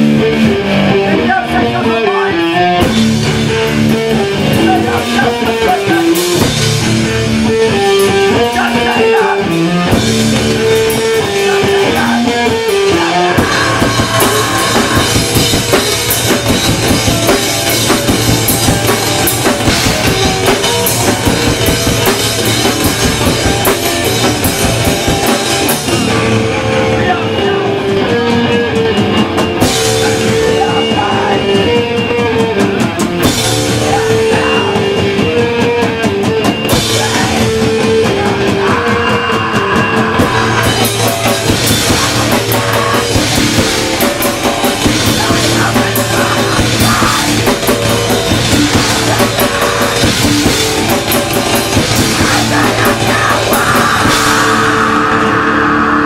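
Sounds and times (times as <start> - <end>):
drum kit: 0.0 - 56.0
guitar riff: 0.0 - 56.0
punk band playing: 0.0 - 56.0.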